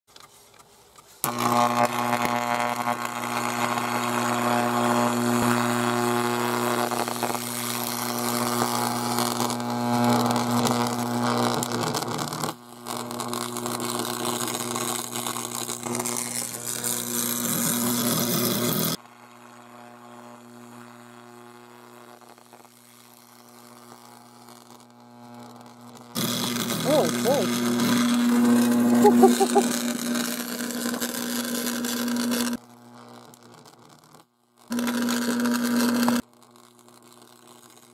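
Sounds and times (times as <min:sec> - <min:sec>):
electric arc buzzing and crackling: 0:01.2 - 0:37.9.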